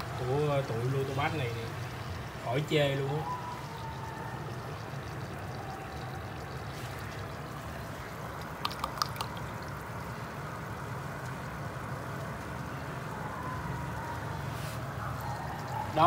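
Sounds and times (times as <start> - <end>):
water trickling in aquarium: 0.0 - 16.0.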